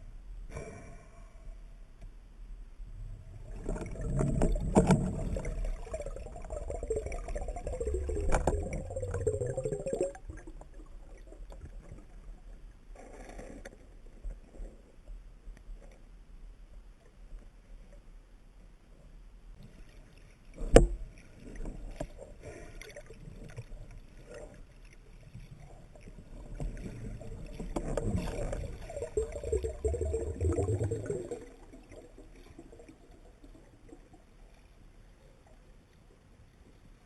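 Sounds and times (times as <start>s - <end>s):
water sloshing and gurgling: 2.9s - 18.1s, 19.5s - 37.0s.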